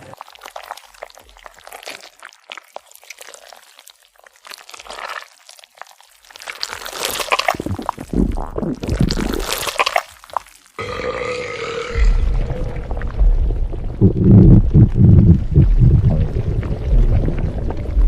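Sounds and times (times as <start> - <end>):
wet chewing and swallowing: 0.0 - 10.8, 12.0 - 18.0.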